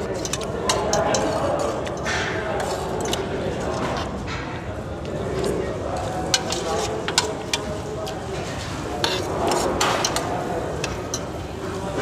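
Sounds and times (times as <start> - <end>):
background murmur: 0.0 - 12.0
cutlery clinking on metal tray: 0.0 - 12.0.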